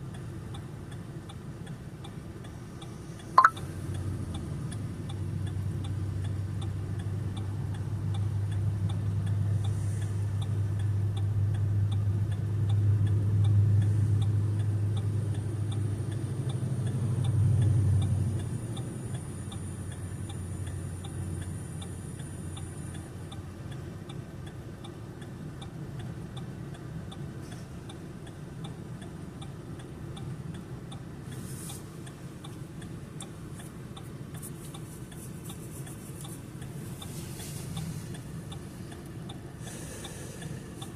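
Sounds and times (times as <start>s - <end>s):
engine and road drone: 0.0s - 40.9s
turn signal ticking: 0.0s - 40.9s.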